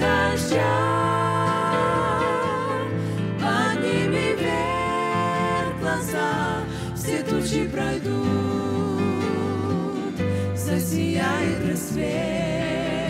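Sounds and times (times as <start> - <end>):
instrumental accompaniment with bass: 0.0 - 13.0
women singing with vibrato: 0.0 - 13.0.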